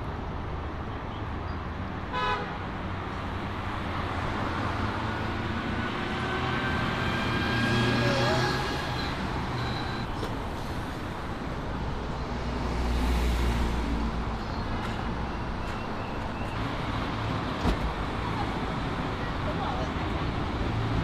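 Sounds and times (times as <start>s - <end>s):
cars and truck driving past: 2.3s - 21.0s.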